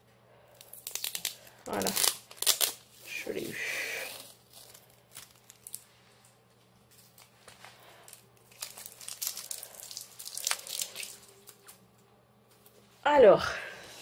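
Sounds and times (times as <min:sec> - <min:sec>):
packaging crinkling: 0:00.5 - 0:12.8.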